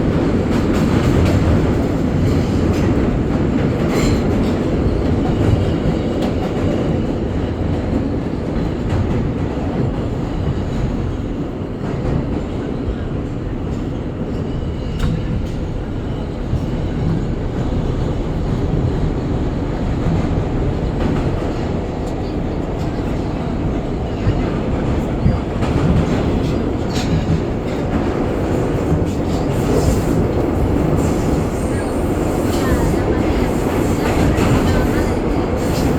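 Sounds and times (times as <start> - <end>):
subway wheels rumbling on rails: 0.0 - 35.9.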